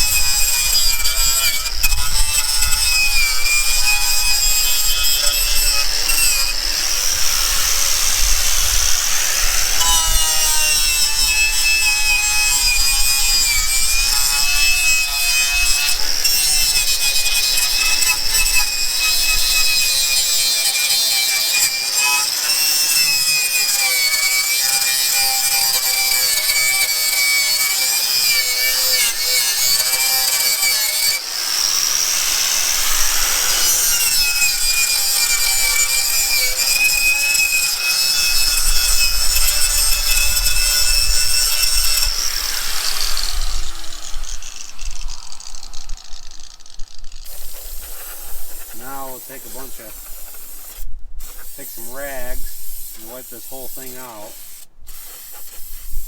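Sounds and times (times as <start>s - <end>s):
power tool motor whine: 0.0s - 55.2s.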